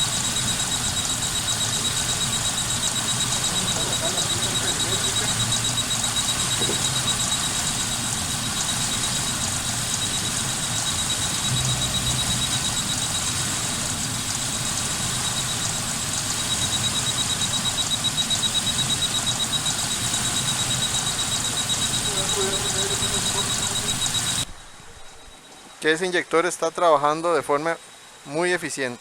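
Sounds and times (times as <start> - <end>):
fast high-pitched pulsing tone: 0.0 - 26.0.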